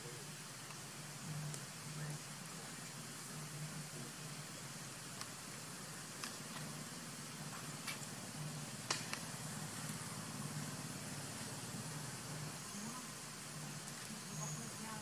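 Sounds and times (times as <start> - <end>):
low hum: 0.0 - 15.0
outdoor background hiss: 0.0 - 15.0.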